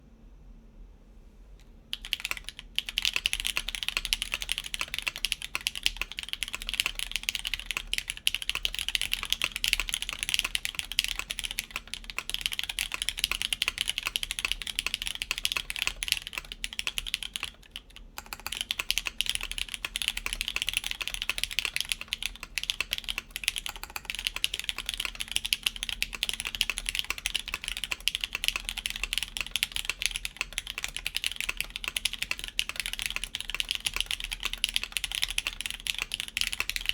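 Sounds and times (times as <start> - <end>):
mechanical keyboard typing: 1.9 - 36.9.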